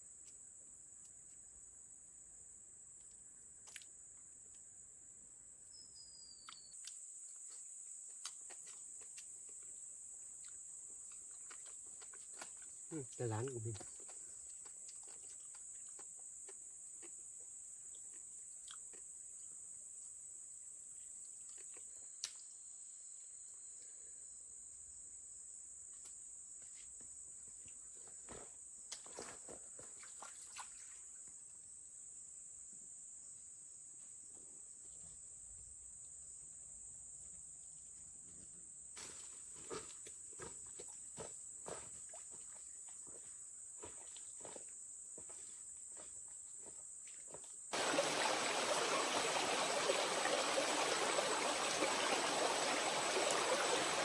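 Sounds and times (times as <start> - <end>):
forest insects chorus: 0.0 - 38.0, 39.0 - 54.0.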